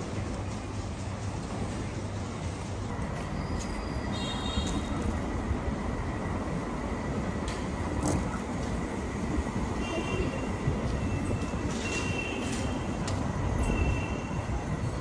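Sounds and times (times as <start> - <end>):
street rumble: 0.0 - 15.0.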